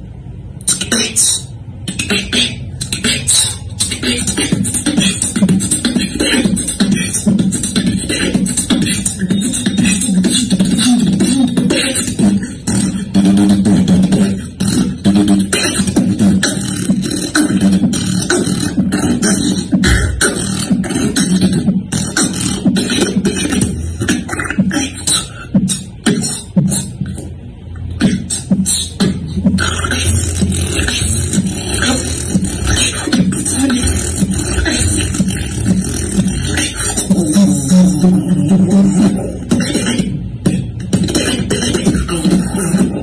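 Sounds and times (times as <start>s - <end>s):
held low vocal tone: 0.0s - 43.0s
person beatboxing: 0.0s - 43.0s.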